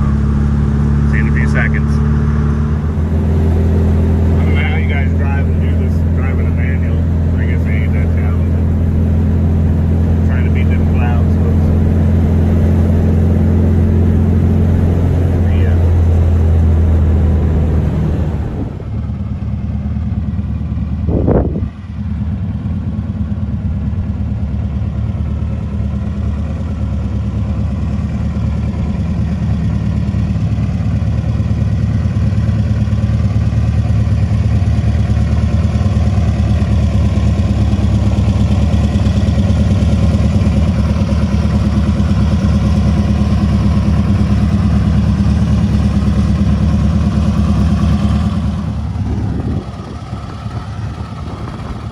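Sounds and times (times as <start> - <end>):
car engine running: 0.0 - 51.9.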